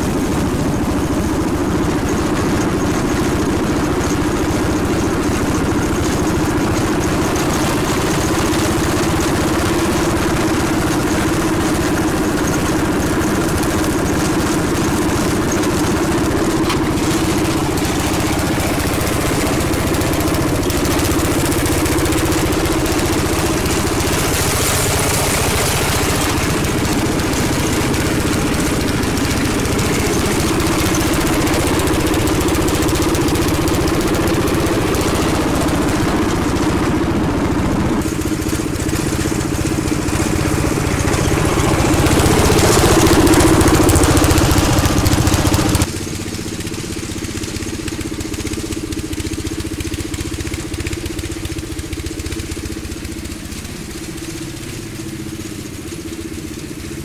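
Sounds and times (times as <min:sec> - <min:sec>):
riding lawnmower engine running: 0:00.0 - 0:57.0.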